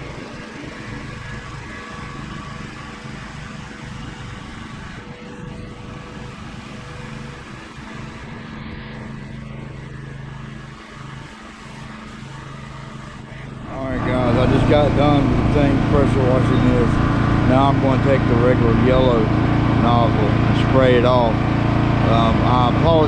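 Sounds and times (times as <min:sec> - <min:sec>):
pressure washer engine drone: 0:00.0 - 0:23.0.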